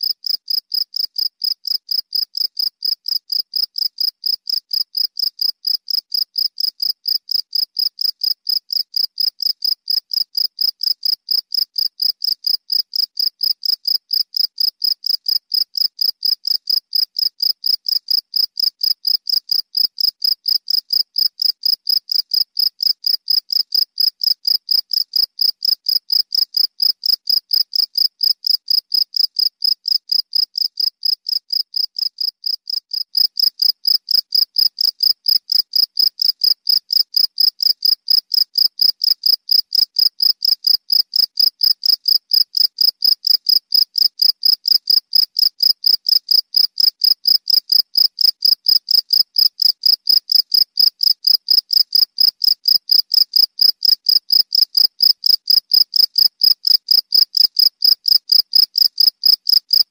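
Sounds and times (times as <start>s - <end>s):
cricket chirping: 0.0s - 59.8s.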